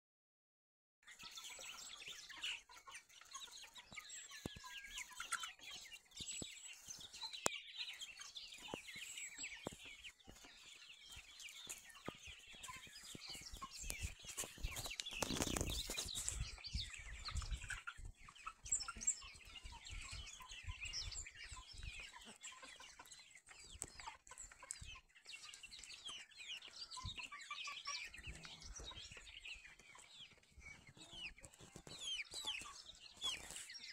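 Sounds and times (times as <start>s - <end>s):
chickens clucking: 1.0s - 33.9s.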